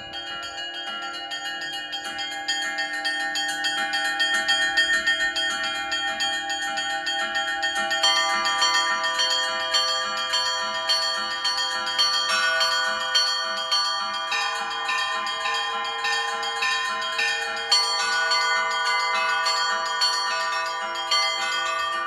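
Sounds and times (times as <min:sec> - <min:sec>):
lower bells ringing: 0:00.0 - 0:22.0
small church bells struck rapidly: 0:00.0 - 0:22.0.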